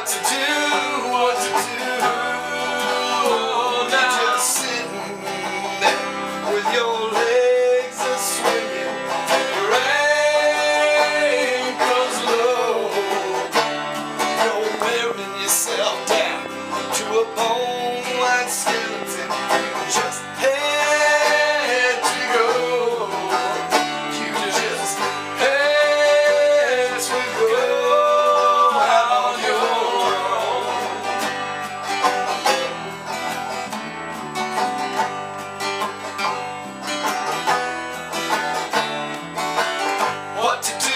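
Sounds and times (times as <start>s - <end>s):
person singing: 0.0s - 33.6s
guitar: 0.0s - 40.9s
plucked banjo: 0.0s - 40.9s.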